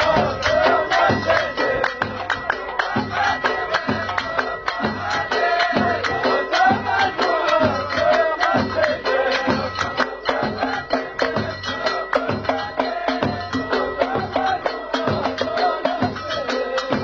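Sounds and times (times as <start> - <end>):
hand-struck frame drums: 0.0 - 17.0
men singing in unison: 0.0 - 17.0.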